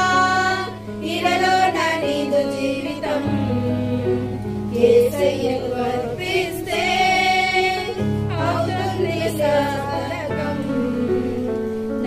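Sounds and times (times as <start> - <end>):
women singing a hymn: 0.0 - 12.0.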